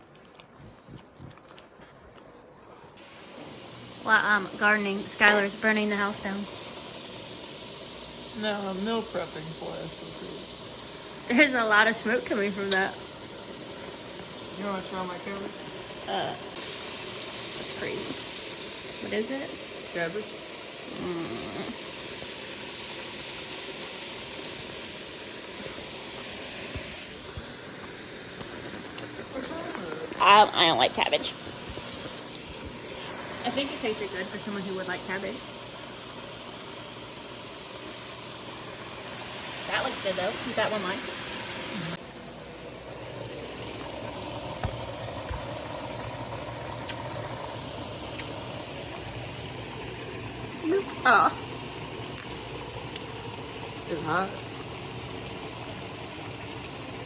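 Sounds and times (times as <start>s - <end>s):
cabbage hissing on stove: 3.0s - 57.0s.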